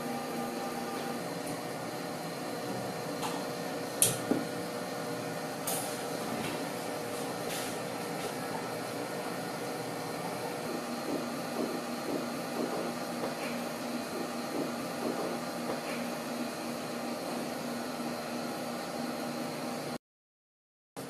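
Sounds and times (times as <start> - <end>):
electrical machine hum: 0.0 - 20.0.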